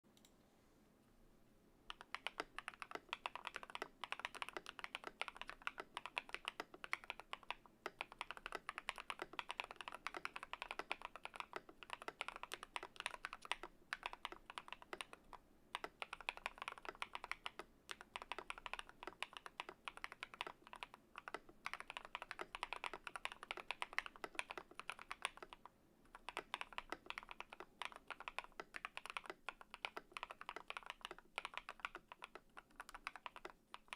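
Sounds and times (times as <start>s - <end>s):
fast mechanical keyboard typing: 1.9s - 33.9s.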